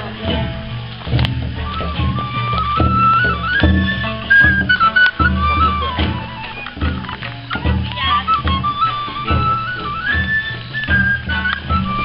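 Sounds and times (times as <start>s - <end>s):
high flute-like folk melody: 0.0s - 12.0s
low regular beat: 0.0s - 12.0s.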